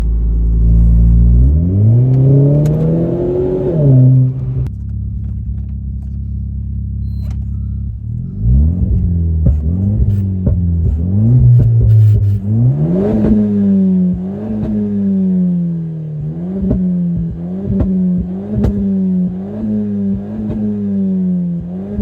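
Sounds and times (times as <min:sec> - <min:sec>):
exhaust cracks: 0:00.0 - 0:21.0
car engine accelerating: 0:00.0 - 0:22.0.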